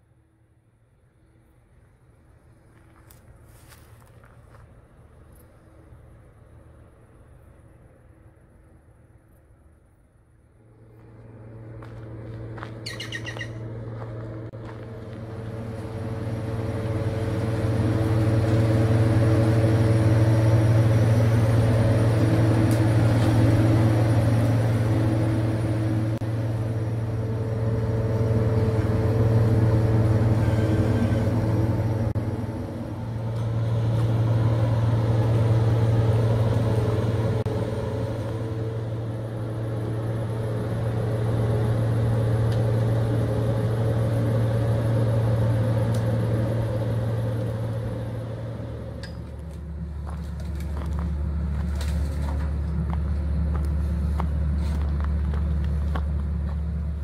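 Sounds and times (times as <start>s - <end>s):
diesel engine humming: 0.0s - 57.0s.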